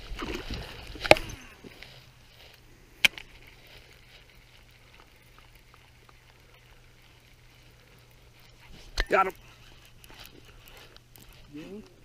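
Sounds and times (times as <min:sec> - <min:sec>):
faint small ticks: 0:00.8 - 0:12.0.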